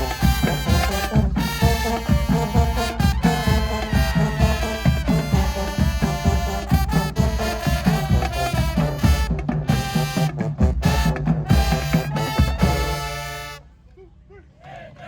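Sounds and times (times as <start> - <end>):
steady drum beat: 0.0 - 13.6
marching band playing: 0.0 - 13.9.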